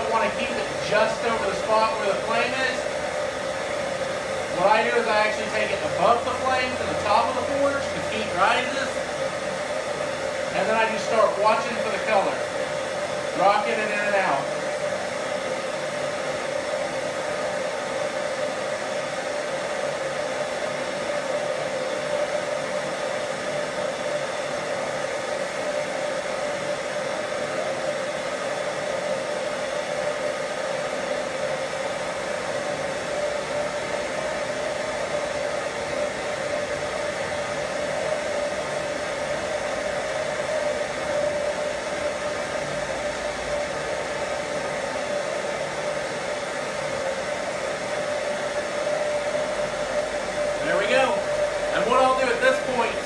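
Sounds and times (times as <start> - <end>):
constant hum: 0.0 - 53.0
gas burner rushing: 0.0 - 53.0.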